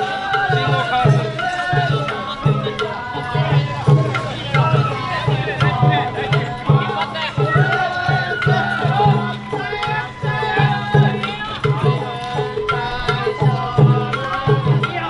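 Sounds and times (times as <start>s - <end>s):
high flute melody: 0.0s - 15.0s
taiko drums beating: 0.0s - 15.0s.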